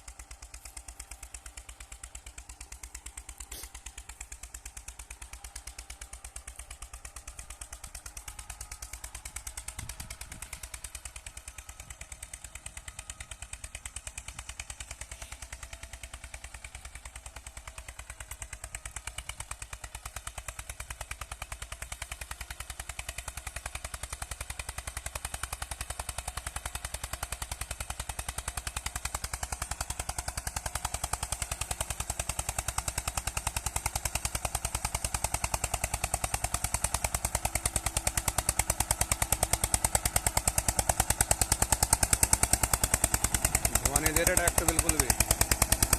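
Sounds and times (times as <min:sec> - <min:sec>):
tractor diesel engine chugging: 0:00.0 - 0:45.9.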